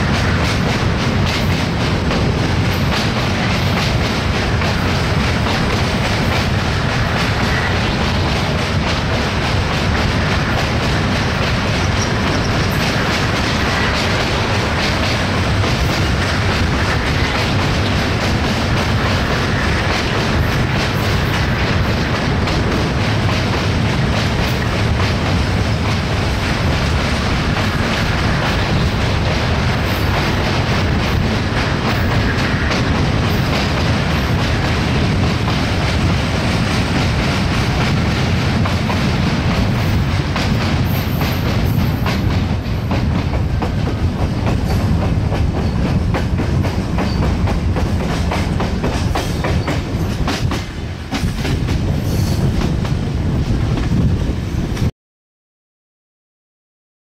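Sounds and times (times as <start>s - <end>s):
clacks over rail joints: 0.0s - 53.0s
train wheels rumbling on rail: 0.0s - 54.9s.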